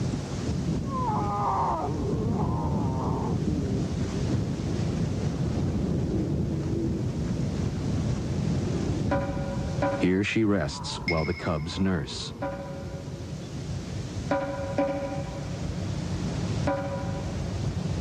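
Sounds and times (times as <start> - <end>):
low rumbling noise: 0.0 - 18.0.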